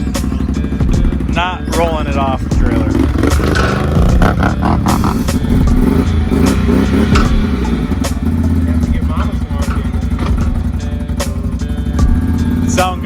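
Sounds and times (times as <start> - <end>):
atv engine revving: 0.0 - 13.0
sharp metal clanks: 0.0 - 13.0.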